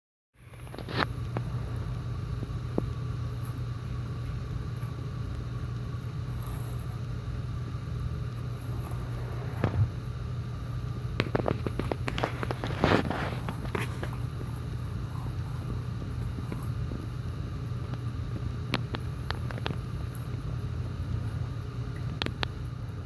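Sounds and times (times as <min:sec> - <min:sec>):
low mechanical hum: 0:00.4 - 0:23.0.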